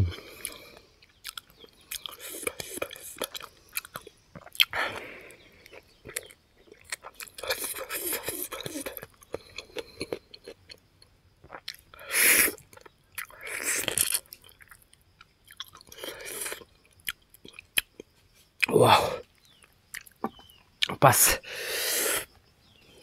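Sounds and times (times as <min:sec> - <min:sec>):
chewing and gnawing: 0:00.3 - 0:20.9.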